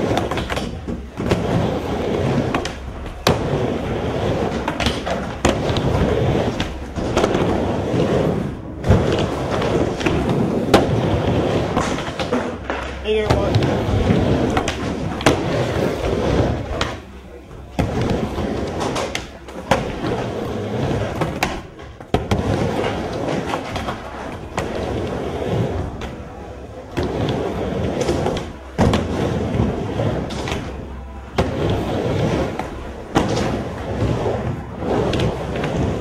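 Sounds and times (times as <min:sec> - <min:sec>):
skateboard clacks: 0:00.0 - 0:17.0, 0:17.7 - 0:26.3, 0:26.9 - 0:36.0
skateboard wheels rolling on wood: 0:00.0 - 0:36.0.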